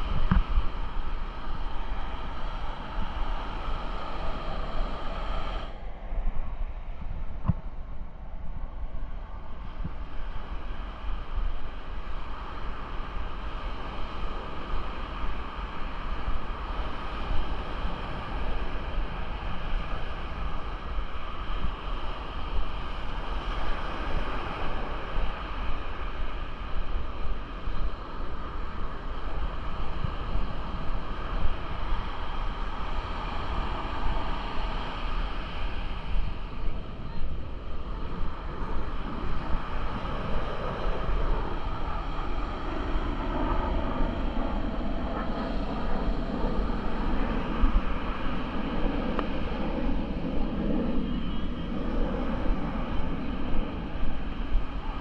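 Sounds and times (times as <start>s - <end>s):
ocean surf washing ashore: 0.0s - 5.8s, 9.6s - 55.0s
wind buffeting microphone: 0.0s - 55.0s.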